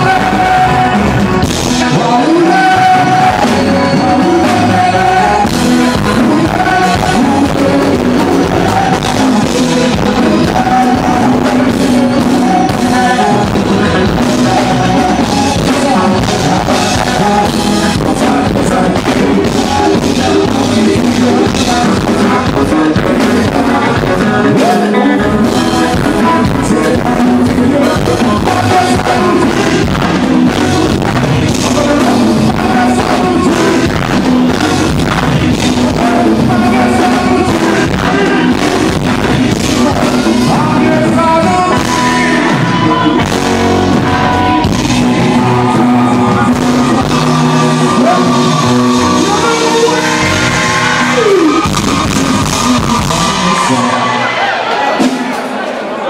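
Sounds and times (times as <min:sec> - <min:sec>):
person singing: 0:00.0 - 0:55.0
drum kit: 0:00.0 - 0:55.8
electric guitars: 0:00.0 - 0:56.0.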